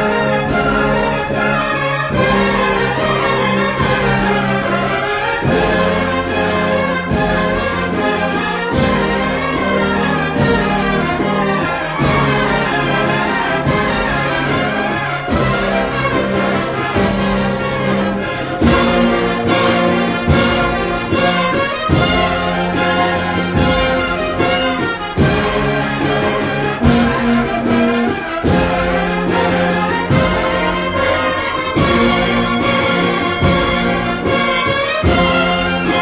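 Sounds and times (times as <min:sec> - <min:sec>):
brass band slow march: 0:00.0 - 0:36.0.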